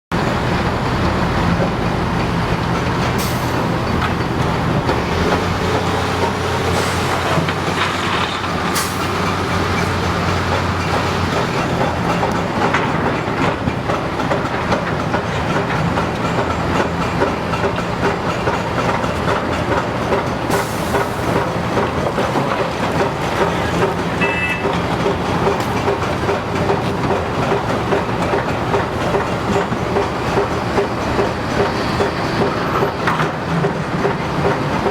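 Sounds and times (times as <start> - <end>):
excavator diesel engine drone: 0.1 - 34.9.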